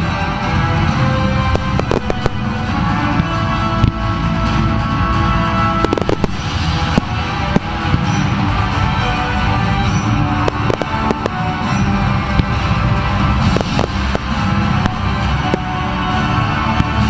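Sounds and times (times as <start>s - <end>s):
music: 0.0s - 17.0s
firework bangs: 1.3s - 4.7s, 5.6s - 16.0s.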